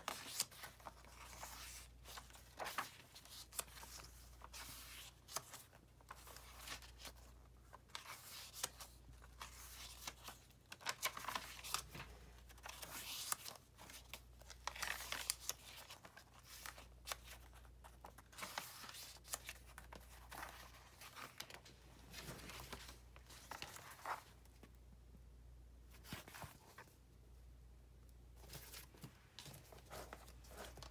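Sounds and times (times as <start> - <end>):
paper pages rustling: 0.0 - 24.8, 25.9 - 27.0, 28.4 - 30.9.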